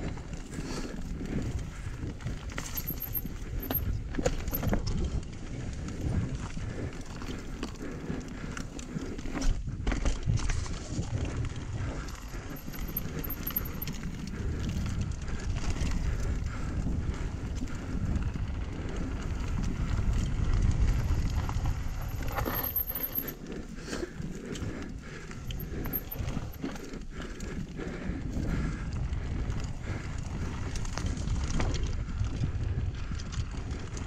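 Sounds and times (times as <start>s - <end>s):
bike tyres crunching over dirt: 0.0s - 22.6s, 27.9s - 34.0s
bike chain and frame rattling: 0.0s - 34.0s
wind rumble on microphone: 0.0s - 34.0s.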